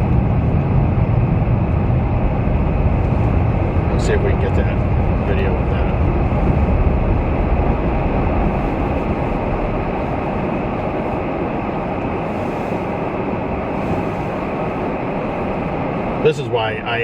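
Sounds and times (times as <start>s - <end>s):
tyre and wind rumble: 0.0s - 17.0s.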